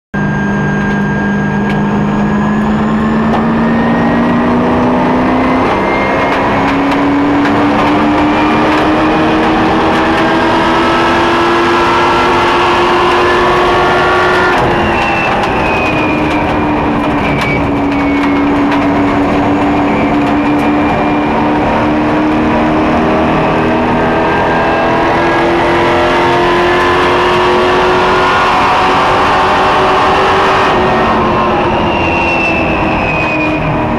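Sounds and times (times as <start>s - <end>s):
racing truck engine at speed: 0.2s - 33.9s.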